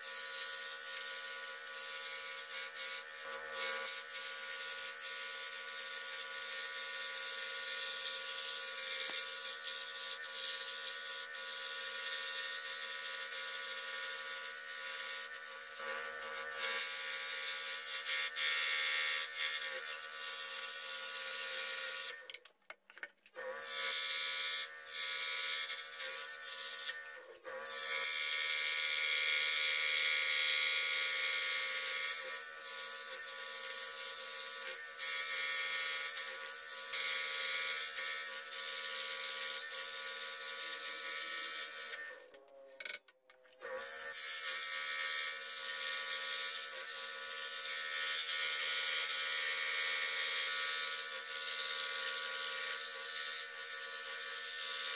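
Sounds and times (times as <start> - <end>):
scroll saw cutting wood: 0.0 - 22.3, 23.3 - 42.9, 43.5 - 54.9.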